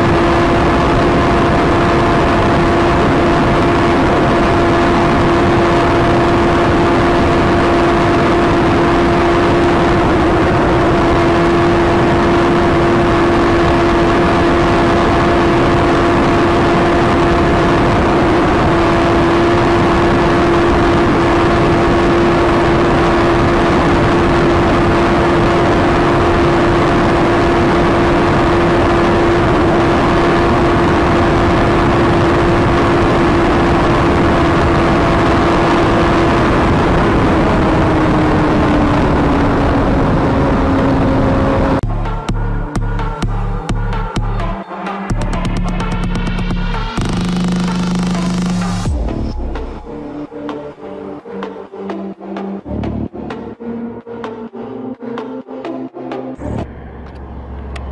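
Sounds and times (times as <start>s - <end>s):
engine running steadily: 0.0s - 57.9s.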